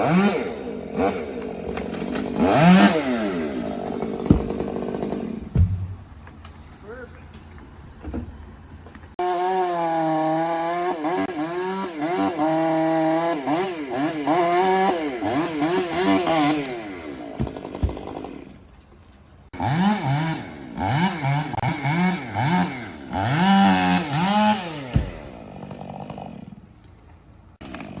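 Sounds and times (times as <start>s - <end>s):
chainsaw revving and idling: 0.0s - 5.8s, 9.2s - 18.6s, 19.6s - 26.6s, 27.6s - 28.0s
chainsaw cutting wood: 0.0s - 6.1s, 9.2s - 18.6s, 19.5s - 26.7s, 27.6s - 28.0s.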